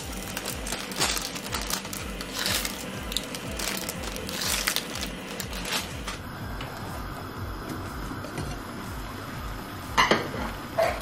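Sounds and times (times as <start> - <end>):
music with low thumping beat: 0.0 - 11.0.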